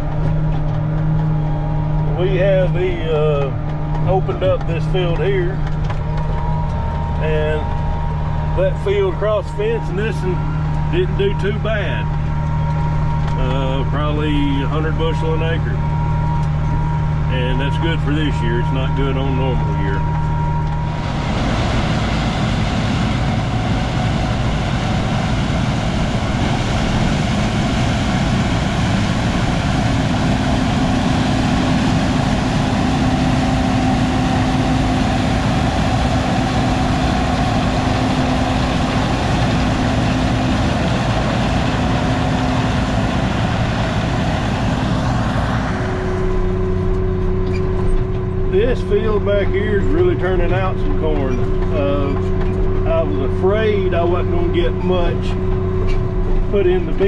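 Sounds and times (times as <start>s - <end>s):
heavy diesel machinery running: 0.0s - 57.0s
steady low hum: 0.0s - 57.0s.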